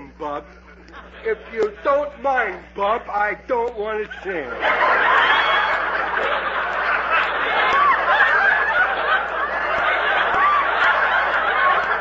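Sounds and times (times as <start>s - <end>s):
studio audience laughing: 0.7s - 2.5s, 4.0s - 12.0s.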